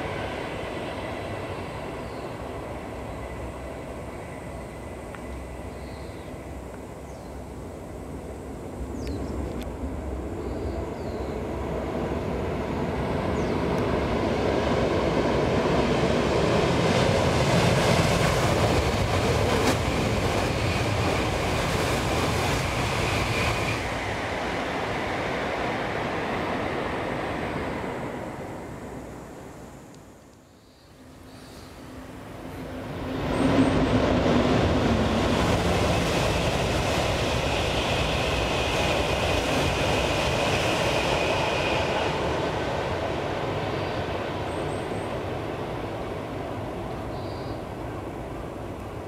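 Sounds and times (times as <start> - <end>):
high-speed train passing: 0.0 - 49.0.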